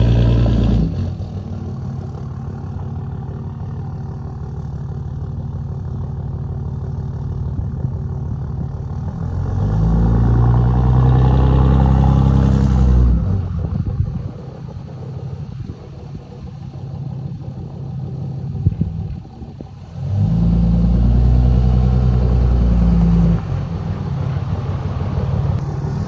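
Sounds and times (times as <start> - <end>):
diesel engine running and revving: 0.0 - 26.0.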